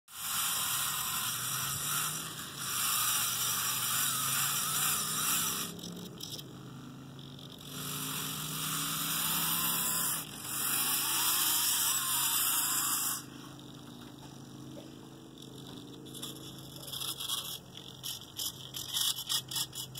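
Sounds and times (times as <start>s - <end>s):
toy motor and gears whirring: 0.1s - 19.9s.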